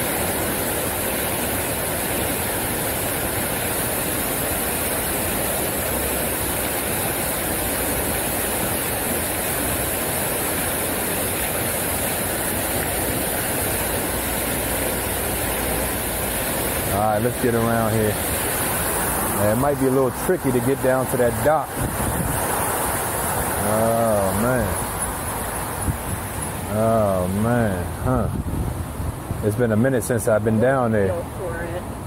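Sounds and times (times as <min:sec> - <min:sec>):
fountain water splashing into pool: 0:00.0 - 0:28.2.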